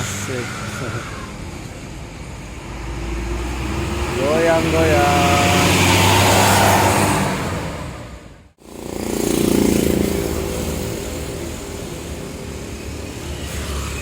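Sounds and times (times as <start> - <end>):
bus engine passing: 0.0 - 14.0.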